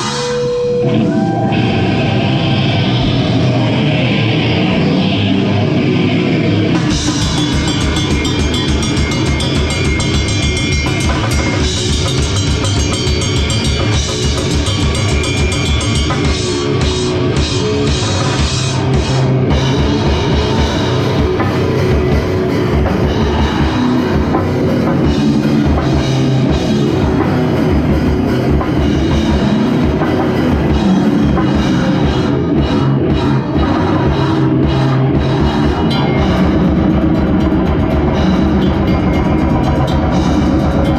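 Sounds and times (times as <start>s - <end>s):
heavy metal band playing: 0.0s - 40.9s
rapid bass drum strokes: 1.9s - 40.9s.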